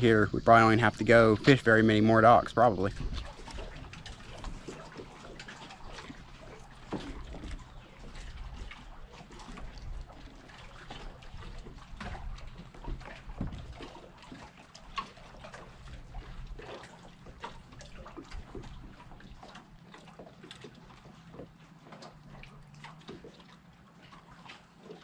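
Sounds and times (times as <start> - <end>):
small waves splashing: 0.0 - 25.0
light knocks against hull and dock: 3.0 - 25.0.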